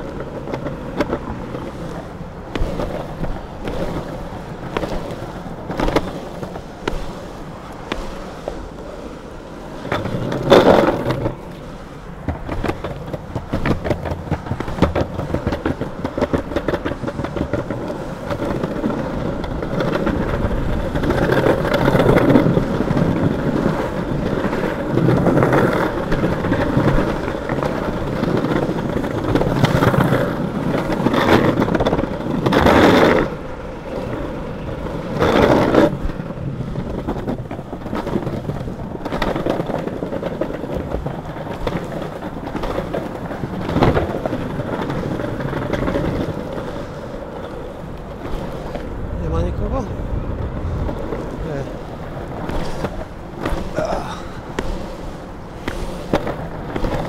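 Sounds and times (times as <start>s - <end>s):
longboard wheels rolling on pavement: 0.0s - 57.0s
wheels clacking over joints: 0.0s - 57.0s.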